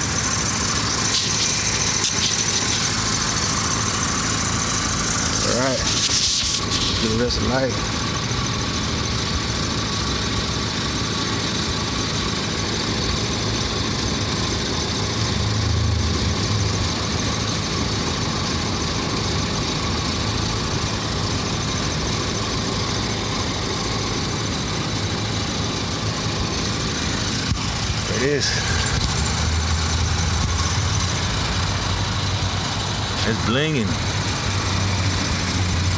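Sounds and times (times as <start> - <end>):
vehicle engine idling: 0.0 - 35.9.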